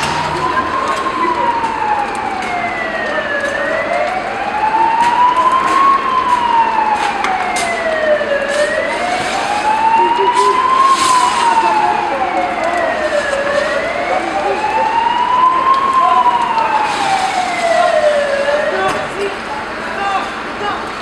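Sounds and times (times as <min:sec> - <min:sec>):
siren wailing: 0:00.0 - 0:20.8.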